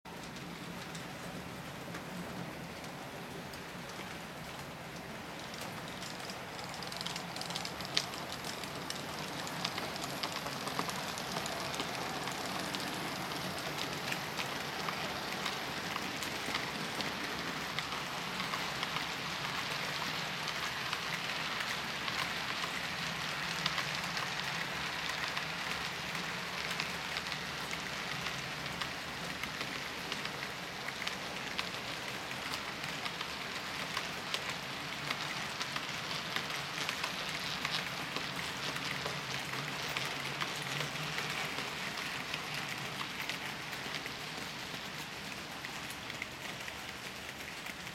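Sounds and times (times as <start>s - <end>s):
model train wheels rattling: 5.4s - 47.9s.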